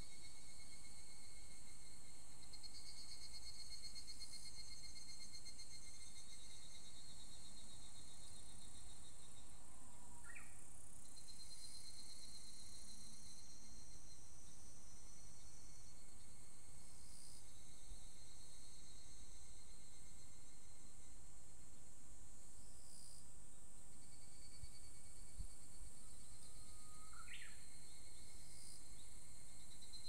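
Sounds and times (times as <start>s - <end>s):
cicadas chorus: 0.0s - 30.0s.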